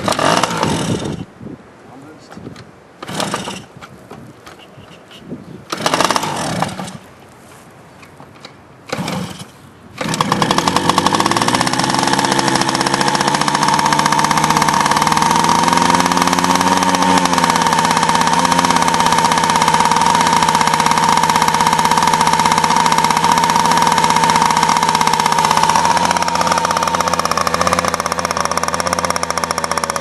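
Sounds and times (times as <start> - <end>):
motorcycle kick-start: 0.0 - 1.2, 3.0 - 3.7, 5.7 - 7.0, 8.3 - 30.0
two-stroke engine running: 0.0 - 1.3, 3.0 - 3.7, 5.7 - 7.0, 8.9 - 30.0.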